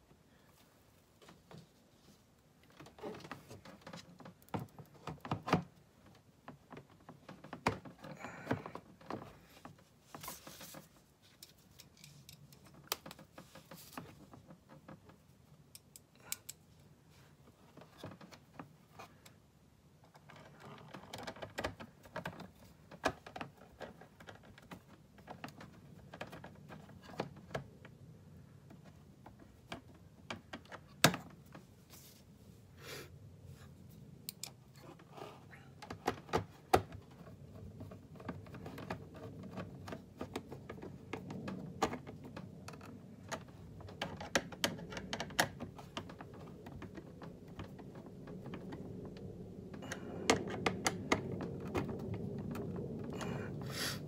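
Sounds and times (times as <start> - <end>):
hands clicking and scraping plastic: 1.1 - 31.9, 33.7 - 54.0.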